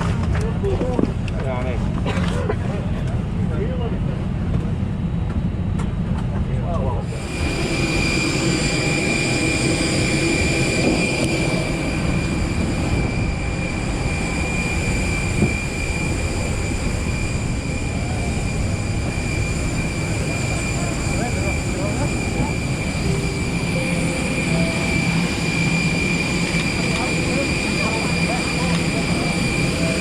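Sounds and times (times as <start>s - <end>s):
jet turbine whine: 0.0s - 30.0s.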